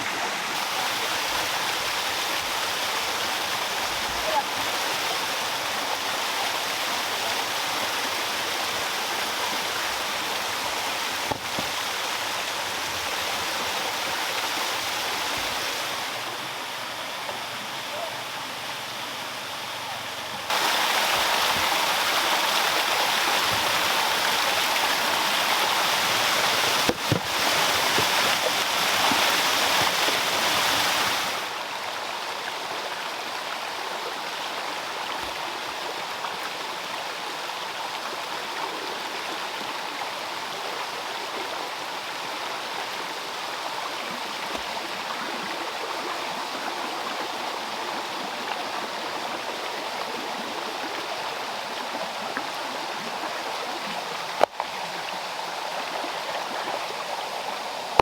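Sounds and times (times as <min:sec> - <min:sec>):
water falling over stones: 0:00.0 - 0:19.0, 0:20.1 - 0:39.4, 0:42.1 - 0:55.5.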